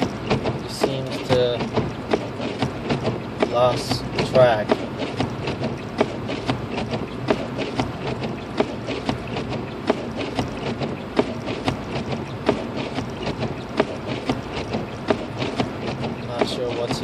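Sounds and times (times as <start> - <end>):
road rumble inside car: 0.0 - 17.0
snow ticking on car: 0.0 - 17.0.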